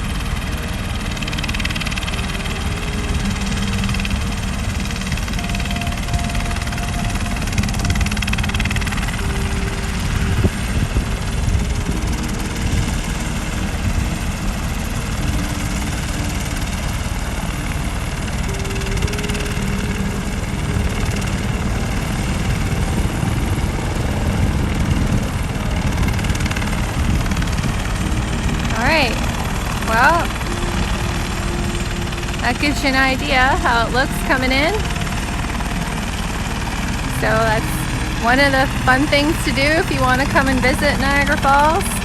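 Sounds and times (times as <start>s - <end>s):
helicopter rotor and turbine: 0.0s - 42.0s.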